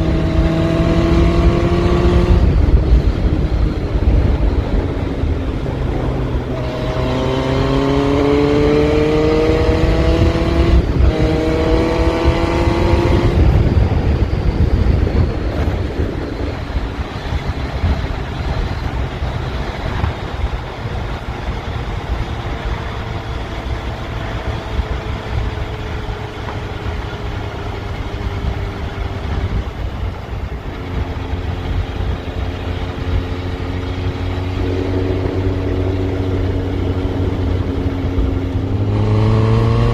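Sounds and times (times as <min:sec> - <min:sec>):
gear change: 0:00.0 - 0:39.9
low rush of noise: 0:00.0 - 0:39.9
motorcycle engine revving: 0:00.0 - 0:39.9.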